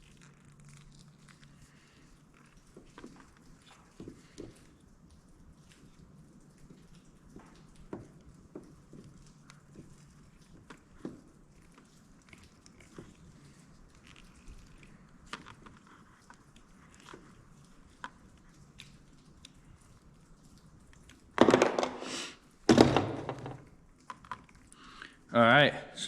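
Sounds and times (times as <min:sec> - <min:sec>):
faint clicks and rustles: 0:00.0 - 0:25.3.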